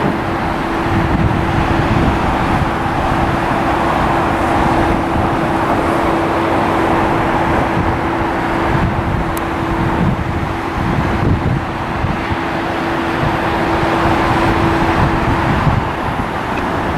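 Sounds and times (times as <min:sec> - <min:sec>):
constant hum: 0:00.0 - 0:16.9
jet engines roaring: 0:00.0 - 0:16.9.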